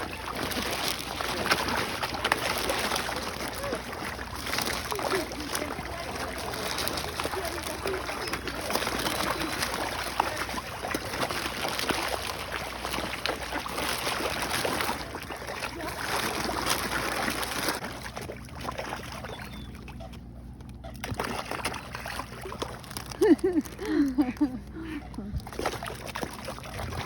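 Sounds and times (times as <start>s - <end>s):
fish splashing in water: 0.0s - 27.0s.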